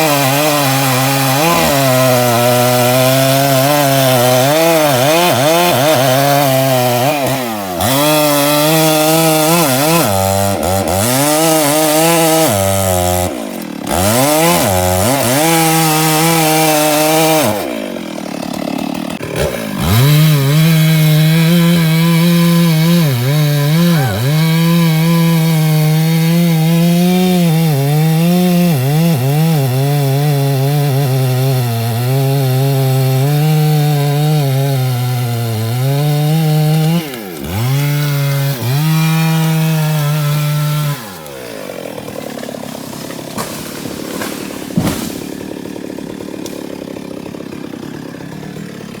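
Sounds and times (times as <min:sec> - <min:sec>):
chainsaw cutting wood: 0:00.0 - 0:49.0.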